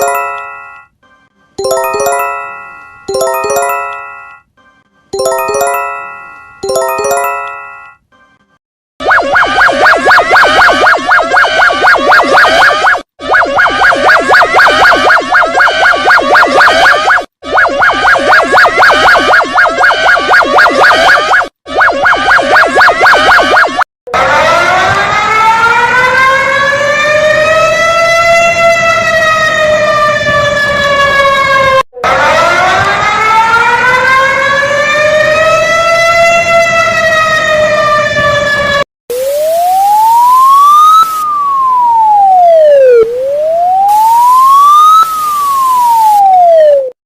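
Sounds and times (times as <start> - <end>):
many-toned siren wailing slowly: 0.0 - 47.0
thin pure-toned siren sweeping: 9.0 - 46.9
fast warbling siren: 9.0 - 47.0.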